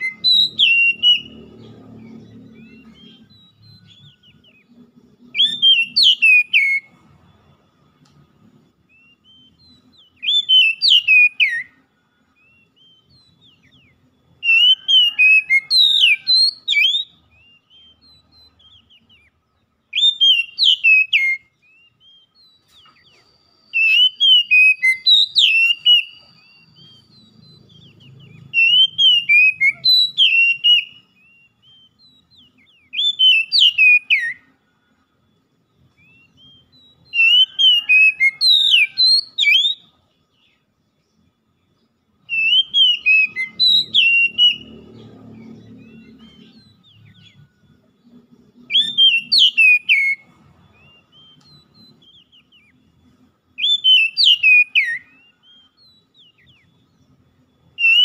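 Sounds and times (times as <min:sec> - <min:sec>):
bird singing whistled phrases: 0:00.0 - 0:58.0.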